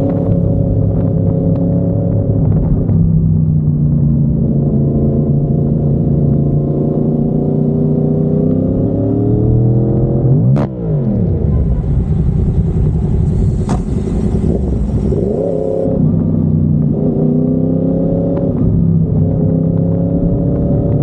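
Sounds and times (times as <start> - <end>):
motorcycle engine revving: 4.2 - 21.0.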